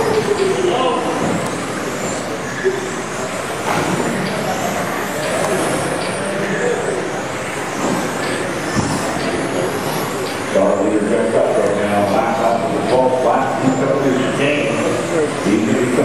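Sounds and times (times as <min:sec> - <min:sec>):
reverberant hall din: 0:00.0 - 0:16.0.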